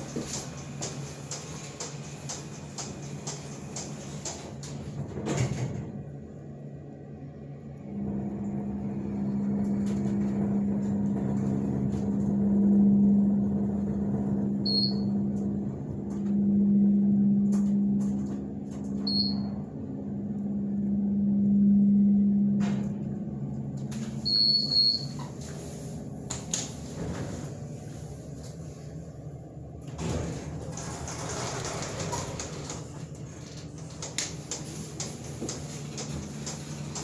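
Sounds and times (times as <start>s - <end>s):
elevator pump motor humming: 0.0s - 37.0s.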